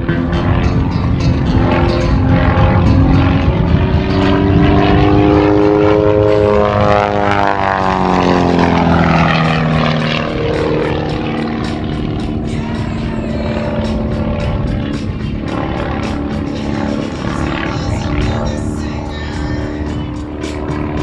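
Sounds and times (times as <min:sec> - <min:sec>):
biplane engine and propeller: 0:00.0 - 0:21.0.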